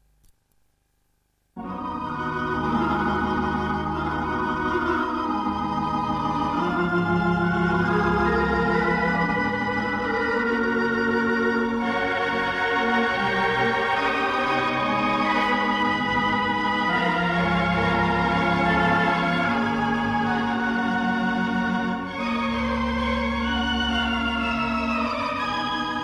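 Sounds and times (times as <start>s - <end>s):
pipe organ playing sustained chords: 1.6s - 26.0s.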